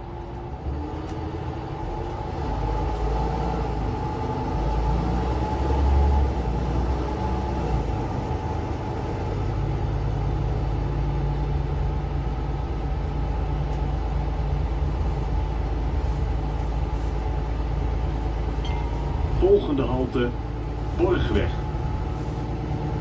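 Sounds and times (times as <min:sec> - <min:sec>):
bus engine drone: 0:00.0 - 0:23.0
road and drivetrain noise: 0:00.0 - 0:23.0.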